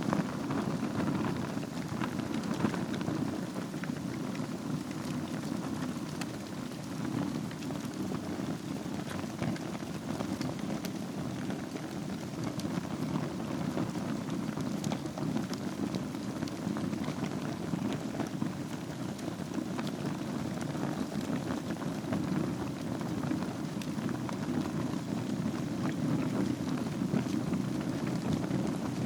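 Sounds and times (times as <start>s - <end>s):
wood fire burning: 0.0s - 29.0s.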